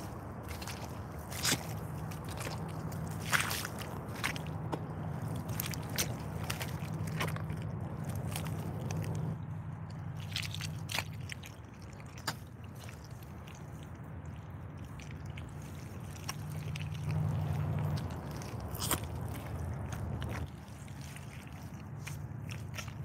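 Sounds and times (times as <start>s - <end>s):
boots squelching in wet mud: 0.0s - 23.0s
steady low rumble: 0.0s - 23.0s.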